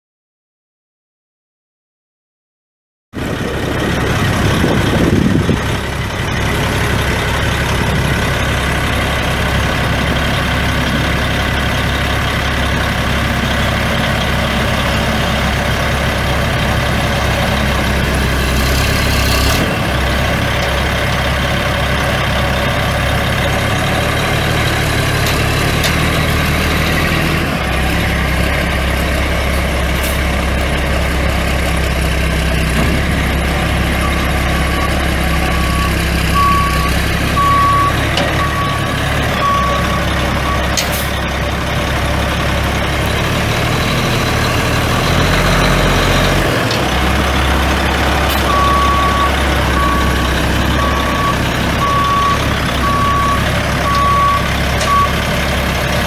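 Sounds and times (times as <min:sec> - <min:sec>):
diesel truck engine idling: 0:03.2 - 0:56.0.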